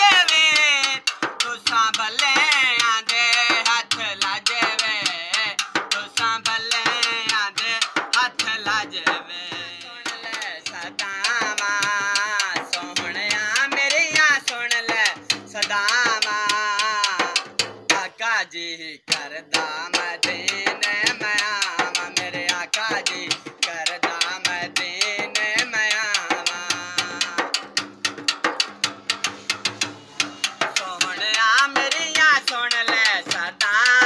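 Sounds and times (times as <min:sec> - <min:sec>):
drum beating: 0:00.0 - 0:18.3, 0:19.0 - 0:34.0
man singing in high voice: 0:00.0 - 0:34.0.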